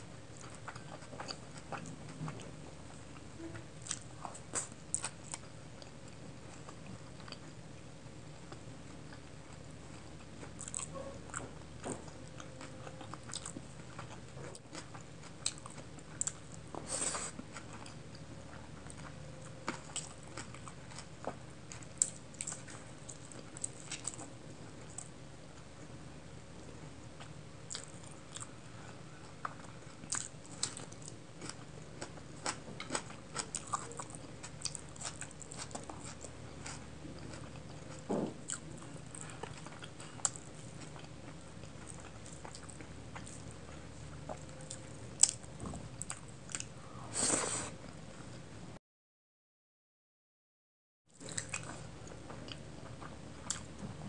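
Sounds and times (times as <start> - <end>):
close chewing and mouth sounds: 0.0 - 48.5, 51.2 - 54.0
faint low hum and hiss: 0.0 - 48.8, 51.1 - 54.0.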